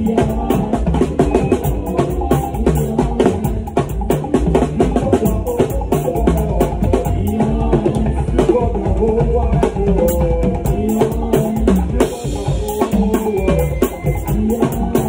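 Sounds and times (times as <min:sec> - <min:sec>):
bass line: 0:00.0 - 0:15.0
drums snare and toms: 0:00.0 - 0:15.0.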